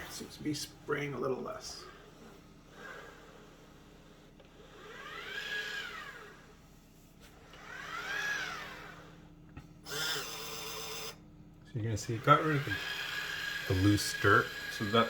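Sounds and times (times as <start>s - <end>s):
robot mop motor hum: 0.0s - 11.2s, 11.8s - 15.0s.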